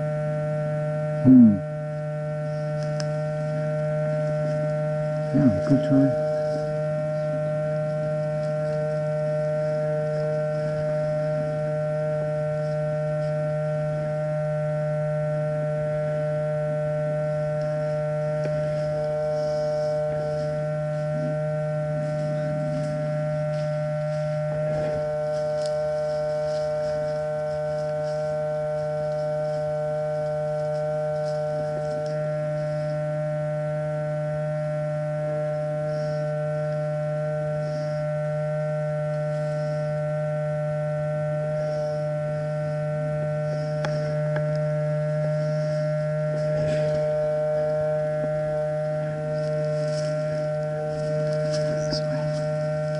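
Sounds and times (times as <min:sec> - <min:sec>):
drone of held tones: 0:00.0 - 0:52.9.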